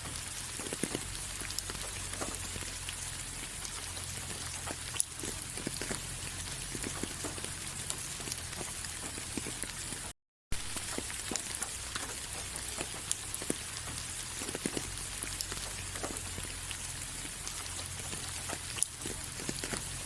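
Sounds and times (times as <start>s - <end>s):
raindrops ticking on a surface: 0.0s - 20.0s
steady rain hiss: 0.0s - 20.0s.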